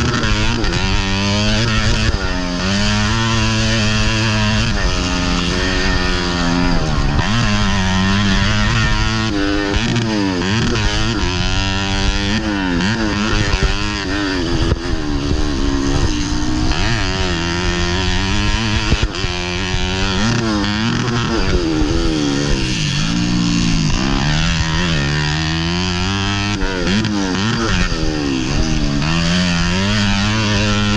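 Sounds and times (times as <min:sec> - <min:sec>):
moped engine revving: 0:00.0 - 0:30.9.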